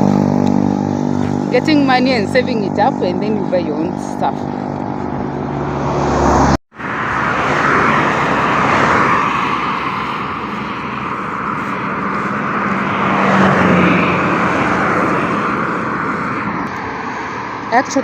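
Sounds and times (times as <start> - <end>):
road traffic passing: 0.0 - 18.0
vehicle engine hum passing: 0.0 - 18.0.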